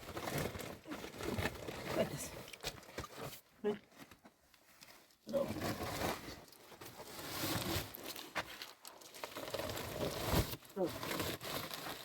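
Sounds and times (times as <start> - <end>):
material rustling and crinkling: 0.0 - 12.0.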